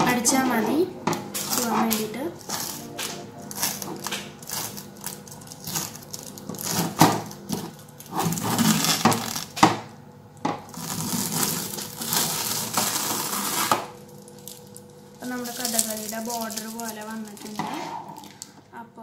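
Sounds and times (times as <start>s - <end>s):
tape peeling with crackle: 1.1s - 9.7s, 10.7s - 18.6s.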